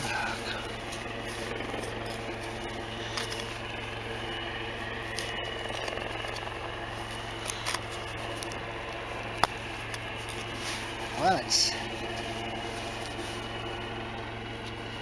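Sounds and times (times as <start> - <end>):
soil being dug by hand: 0.0 - 14.9
steady low hum: 0.0 - 15.0.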